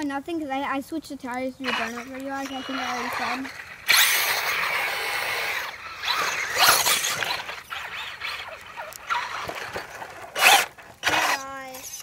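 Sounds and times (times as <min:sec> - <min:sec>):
rc car motor whining: 0:01.6 - 0:12.0.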